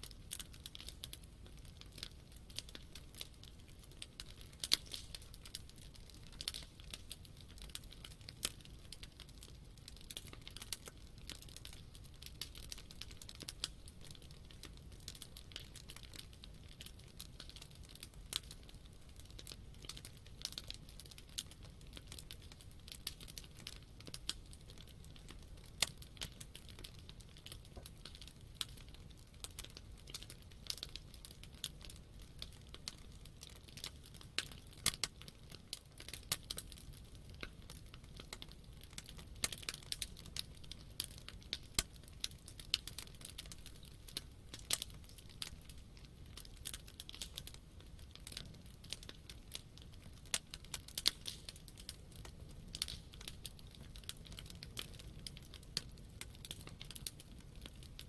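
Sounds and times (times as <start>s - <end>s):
burning wood popping and snapping: 0.0s - 58.0s.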